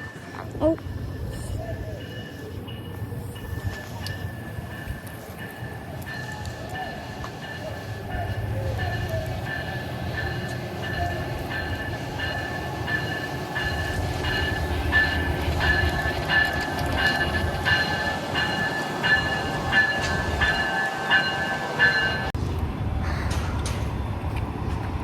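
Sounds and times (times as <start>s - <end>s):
diesel locomotive idling: 0.0s - 25.0s
train bell ringing: 0.6s - 22.4s.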